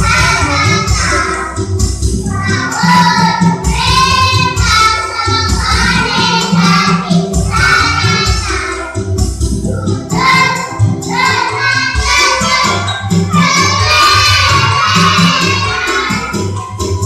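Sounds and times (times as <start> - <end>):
children's choir singing: 0.0 - 17.0
musical accompaniment: 0.0 - 17.0.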